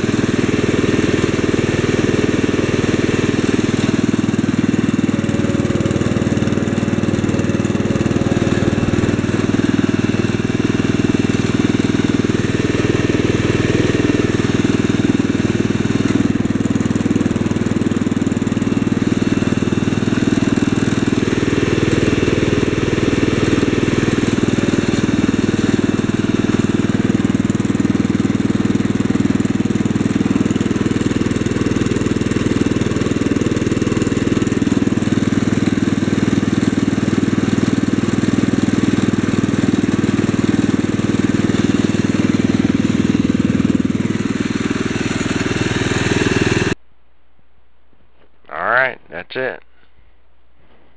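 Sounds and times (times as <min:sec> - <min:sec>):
garden tractor engine running: 0:00.0 - 0:46.8.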